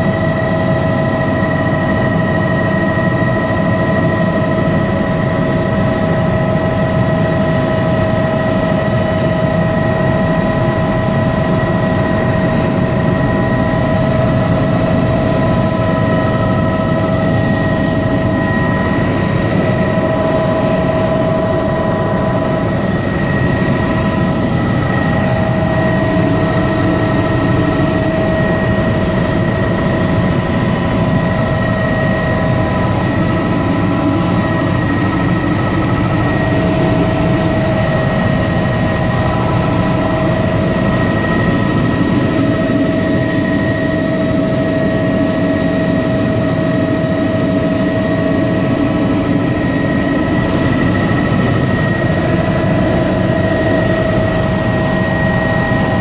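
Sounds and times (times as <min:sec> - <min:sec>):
helicopter engine and rotor noise: 0:00.0 - 0:56.0
high-pitched whine: 0:00.0 - 0:56.0.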